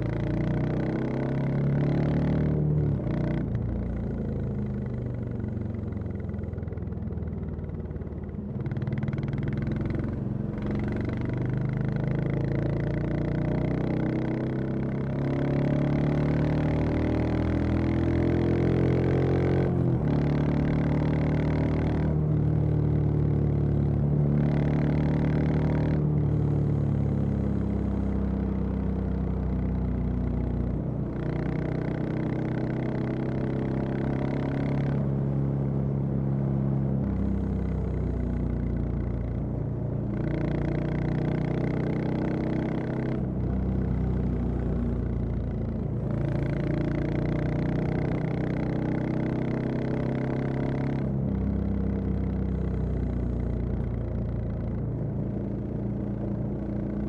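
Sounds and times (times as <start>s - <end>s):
motorcycle engine riding: 0.0s - 57.0s.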